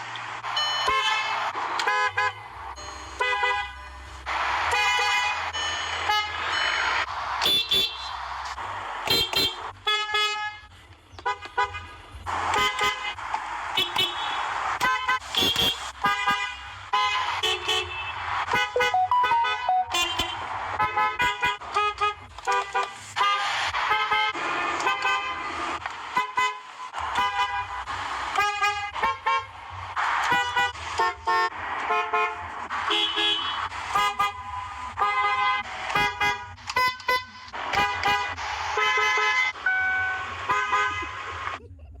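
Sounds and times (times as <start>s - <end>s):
car horns blasting: 0.6s - 3.9s, 4.7s - 8.3s, 9.1s - 11.9s, 12.5s - 13.2s, 13.8s - 29.5s, 30.2s - 41.2s.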